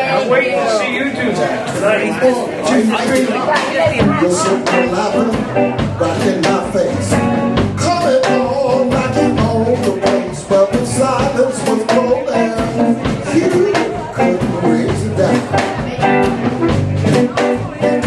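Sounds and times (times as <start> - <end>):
bass guitar: 2.7 - 18.0
electric guitar: 2.7 - 18.0
drum kit: 3.0 - 18.0.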